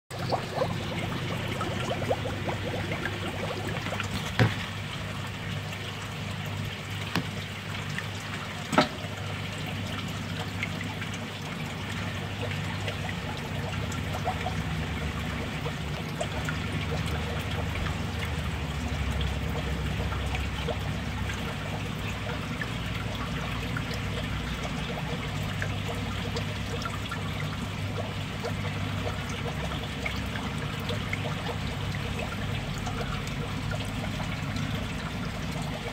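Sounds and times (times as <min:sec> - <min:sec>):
low steady hum: 0:00.1 - 0:35.9
water trickling from a pipe: 0:00.1 - 0:35.9.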